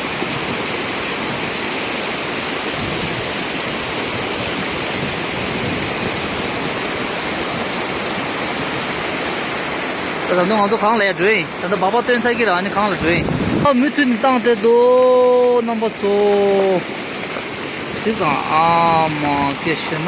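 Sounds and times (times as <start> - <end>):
water rushing: 0.0 - 20.0.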